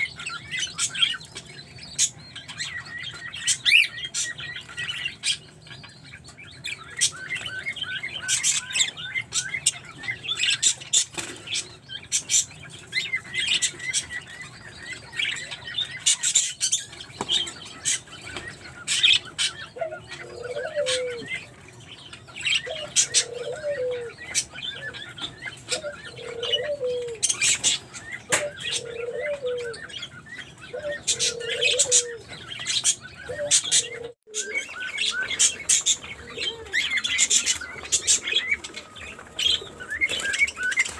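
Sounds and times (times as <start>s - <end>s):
budgies chirping: 0.0s - 40.9s.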